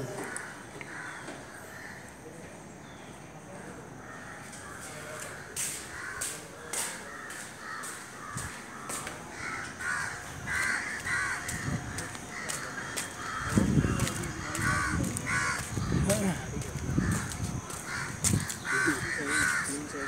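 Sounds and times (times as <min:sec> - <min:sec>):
harsh bird calls: 0:00.0 - 0:20.0.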